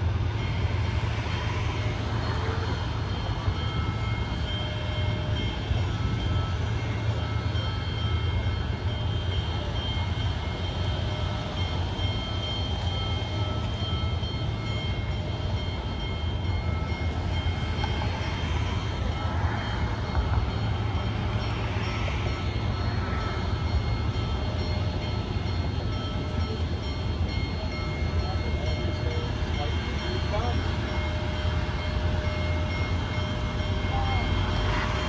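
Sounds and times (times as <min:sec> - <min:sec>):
locomotive rumbling: 0:00.0 - 0:35.0.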